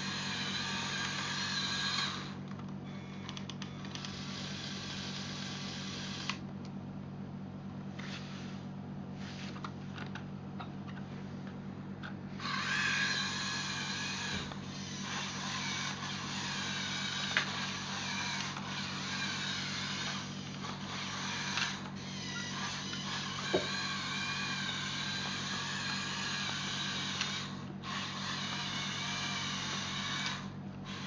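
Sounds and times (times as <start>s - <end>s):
toy truck electric motors whining: 0.0s - 6.4s, 12.3s - 31.0s.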